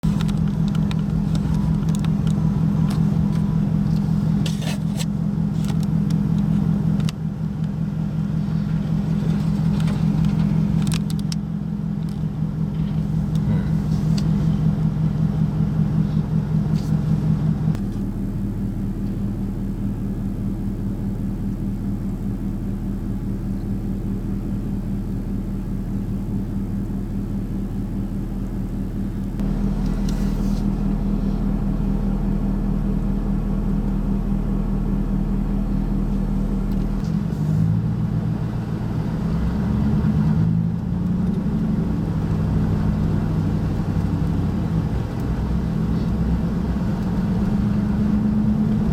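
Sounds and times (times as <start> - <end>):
engine running with low drone: 0.0 - 48.9.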